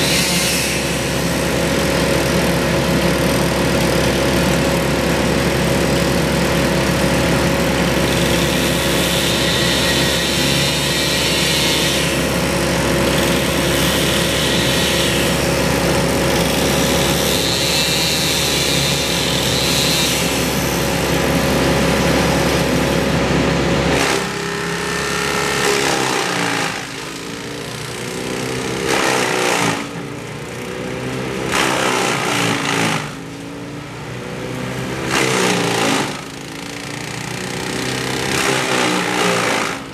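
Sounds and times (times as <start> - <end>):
power equipment engines running: 0.0 - 39.9.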